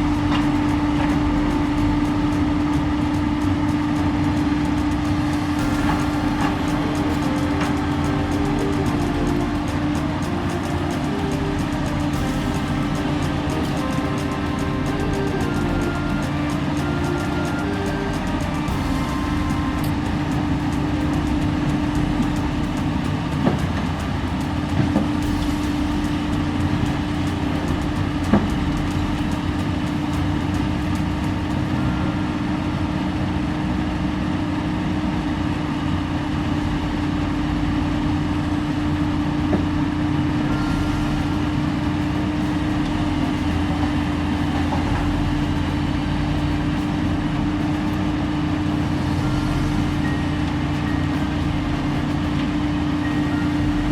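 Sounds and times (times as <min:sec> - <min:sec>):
heavy diesel engine running: 0:00.0 - 0:32.6, 0:36.0 - 0:53.9.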